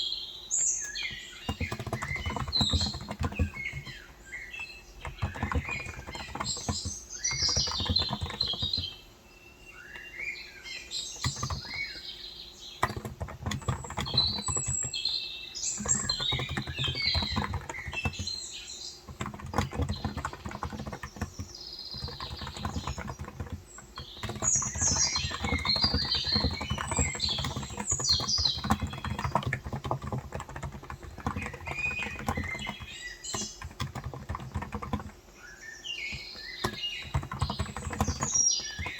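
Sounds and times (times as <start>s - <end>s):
small birds chirping: 0.0s - 38.9s
soft keyboard keystrokes: 0.8s - 9.0s, 9.9s - 12.1s, 12.7s - 35.3s, 35.9s - 38.9s.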